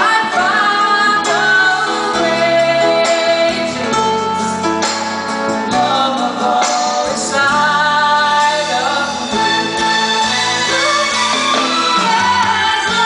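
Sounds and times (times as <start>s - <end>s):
woman singing: 0.0s - 9.5s, 10.6s - 13.0s
live band playing: 0.0s - 13.0s.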